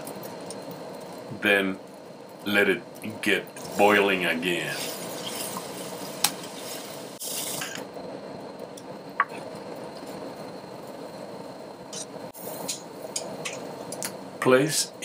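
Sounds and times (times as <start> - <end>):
liquid bubbling in a pot: 0.0 - 14.4.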